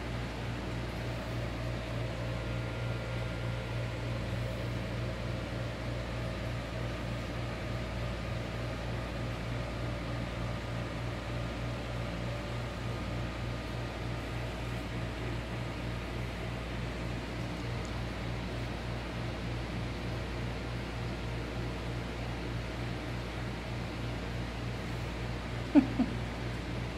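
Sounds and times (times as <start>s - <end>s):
appliance hum and hiss: 0.0s - 26.9s.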